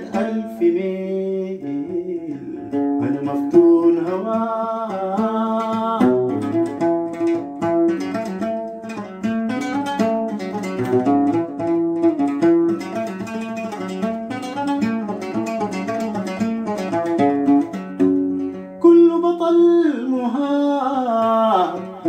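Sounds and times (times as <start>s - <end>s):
oud plucked melody: 0.0s - 22.0s.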